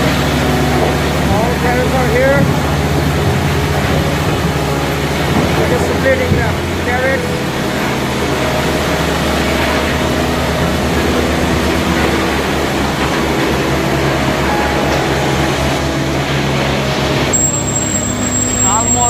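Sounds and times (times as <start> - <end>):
belt conveyor running: 0.0 - 19.0
low mechanical hum: 0.0 - 19.0.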